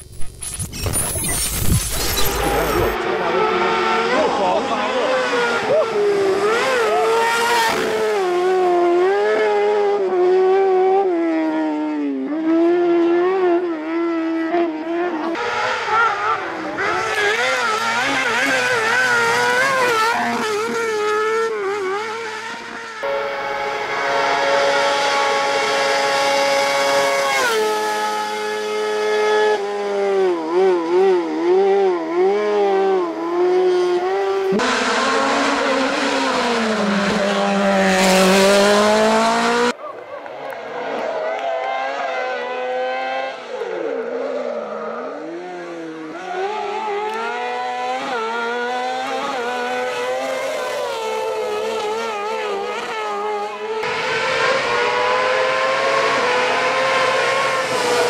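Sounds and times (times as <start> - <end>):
high-revving racing engines: 1.4 - 58.0.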